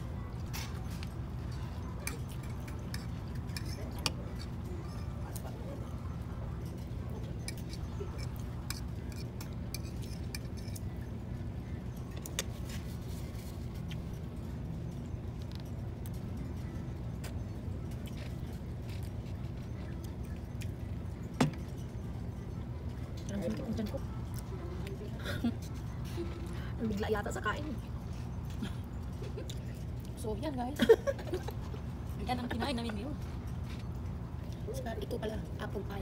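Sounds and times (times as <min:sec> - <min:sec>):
restaurant room hum: 0:00.0 - 0:36.0.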